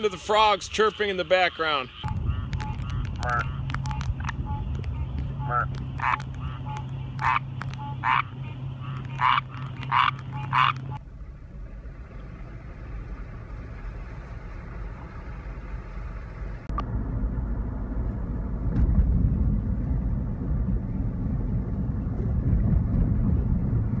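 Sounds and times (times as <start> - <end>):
outdoor background noise: 0.0 - 24.0
vehicle road and wind rumble: 0.0 - 24.0.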